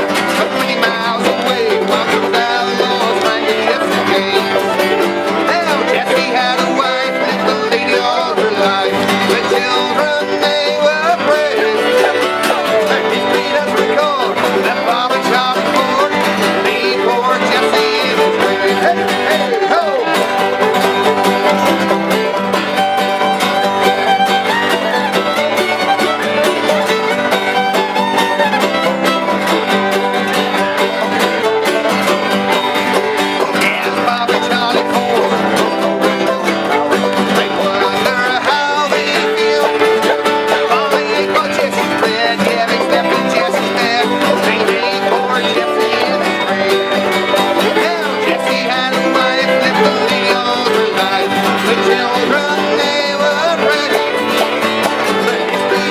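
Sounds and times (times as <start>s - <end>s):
banjo: 0.0s - 55.9s
fiddle: 0.0s - 55.9s
guitar: 0.0s - 55.9s.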